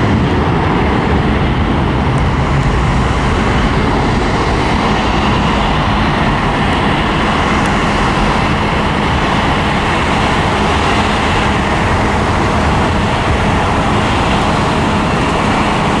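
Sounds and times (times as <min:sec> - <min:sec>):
jet engines rushing: 0:00.0 - 0:16.0
low hum: 0:00.0 - 0:16.0.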